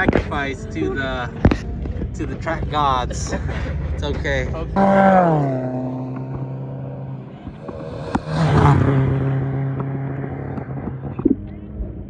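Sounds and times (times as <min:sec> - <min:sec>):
race cars passing: 0:00.0 - 0:12.0.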